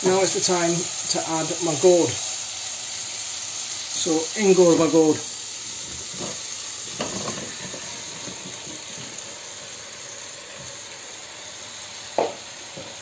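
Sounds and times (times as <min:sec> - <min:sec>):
frying hiss in pot: 0:00.0 - 0:13.0.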